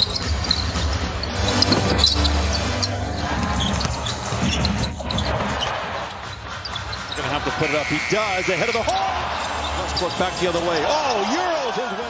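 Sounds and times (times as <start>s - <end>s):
sneaker squeaks: 0.0s - 11.3s
crowd noise: 0.0s - 12.0s.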